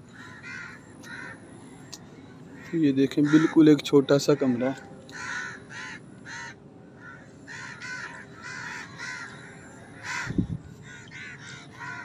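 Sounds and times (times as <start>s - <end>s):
crows cawing: 0.0s - 1.9s, 2.6s - 12.0s.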